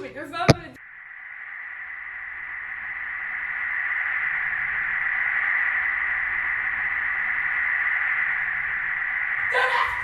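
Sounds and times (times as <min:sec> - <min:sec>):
steady static hiss: 0:00.0 - 0:09.4.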